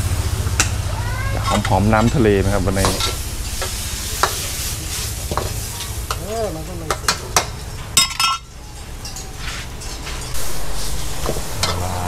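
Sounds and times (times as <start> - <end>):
seafood sizzling in a wok: 0.0 - 12.0.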